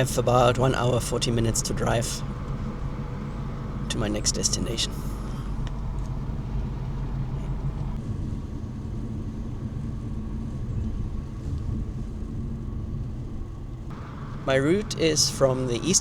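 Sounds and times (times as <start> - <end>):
car engine hum: 0.0 - 16.0
road and tyre noise: 0.0 - 16.0.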